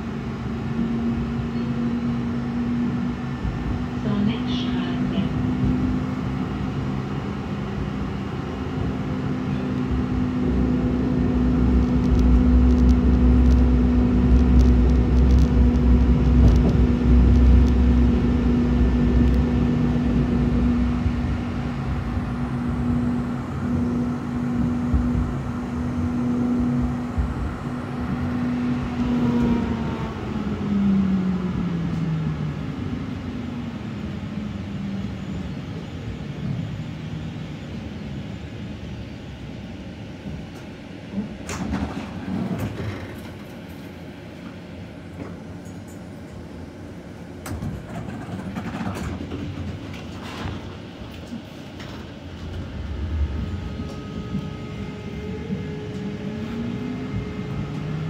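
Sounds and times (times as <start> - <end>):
tram motor hum: 0.0 - 58.0
wheels rumbling on rails: 0.0 - 58.0.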